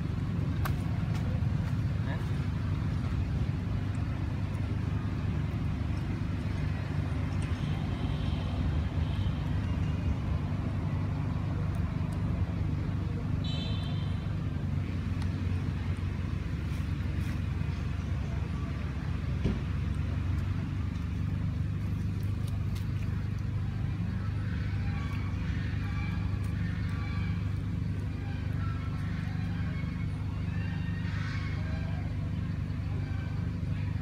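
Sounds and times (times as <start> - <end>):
low motor rumble: 0.0 - 34.0.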